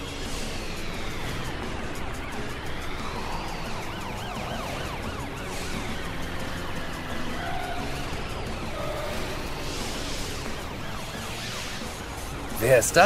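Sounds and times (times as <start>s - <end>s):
background music: 0.0s - 13.0s
cartoon police siren: 0.0s - 13.0s.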